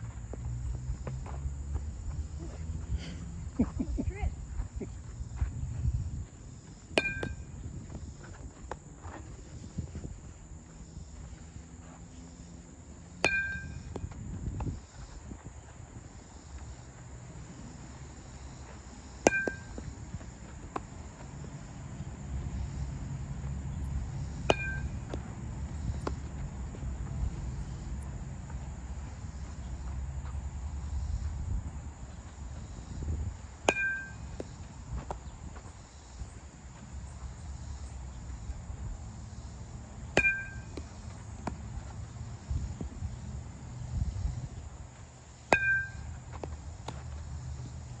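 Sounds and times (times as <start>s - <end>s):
low wind rumble: 0.0s - 11.8s, 12.6s - 18.2s, 19.2s - 48.0s.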